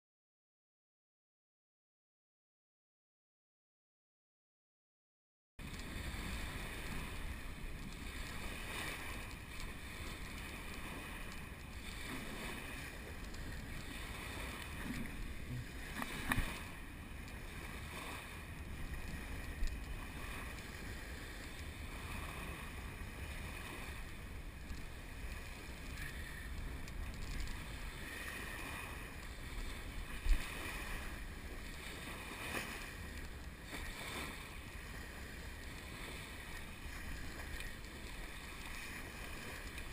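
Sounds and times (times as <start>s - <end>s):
small waves washing on sand: 5.6s - 39.9s.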